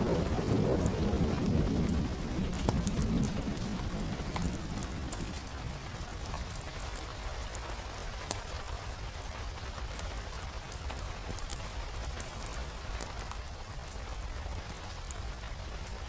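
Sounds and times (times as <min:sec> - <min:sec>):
rain falling: 0:00.0 - 0:16.0
sharp ticks and pops: 0:00.1 - 0:16.0.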